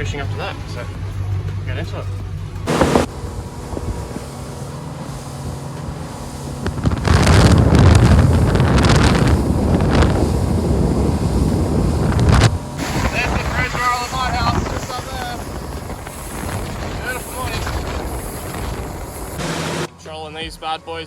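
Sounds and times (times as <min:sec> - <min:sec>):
water noise: 0:00.0 - 0:19.9
boat motor running: 0:00.0 - 0:20.6
wind rushing on microphone: 0:02.7 - 0:19.9.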